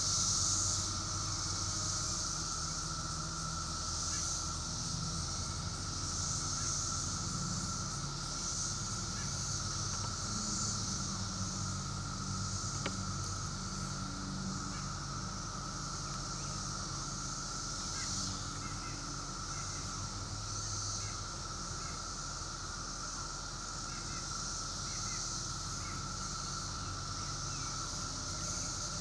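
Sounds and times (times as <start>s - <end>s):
cicadas droning: 0.0s - 29.0s.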